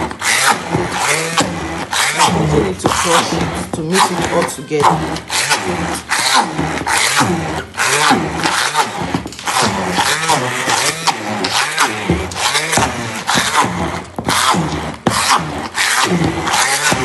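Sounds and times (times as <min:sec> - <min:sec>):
electric hand mixer running: 0:00.0 - 0:17.0.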